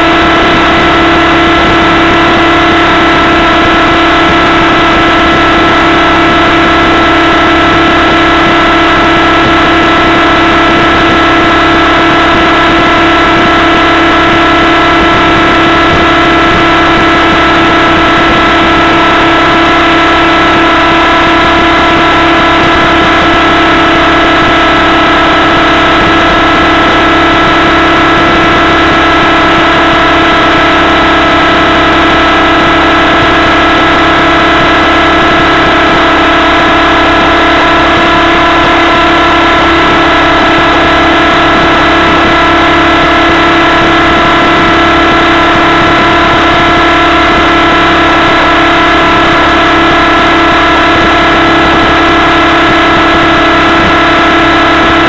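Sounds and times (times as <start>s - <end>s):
model helicopter engine running: 0.0s - 55.0s.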